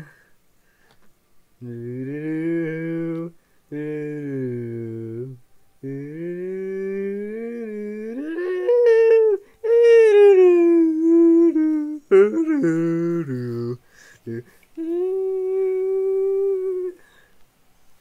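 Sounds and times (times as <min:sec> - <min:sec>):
person humming a melody: 0:00.0 - 0:00.3, 0:01.6 - 0:17.3
lower hummed line: 0:01.6 - 0:17.0.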